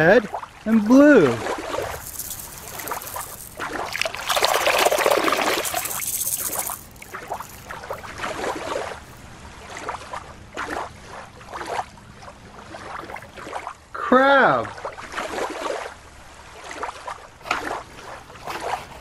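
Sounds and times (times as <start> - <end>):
lake water splashing: 0.2 - 13.8, 14.6 - 19.0.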